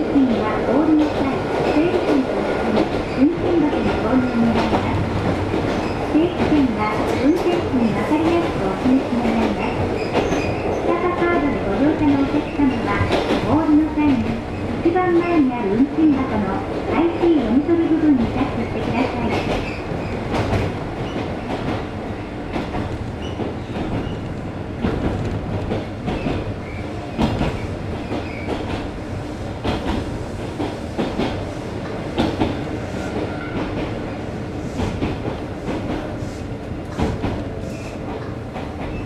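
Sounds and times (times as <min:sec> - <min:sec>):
train running gear rumble: 0:00.0 - 0:39.0.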